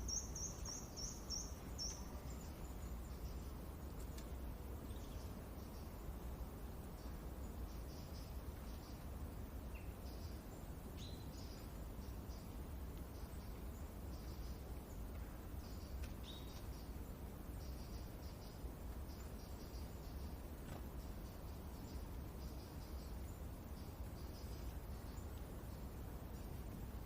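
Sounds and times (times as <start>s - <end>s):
low wind rumble: 0.0s - 27.0s
small birds chirping: 0.0s - 27.0s.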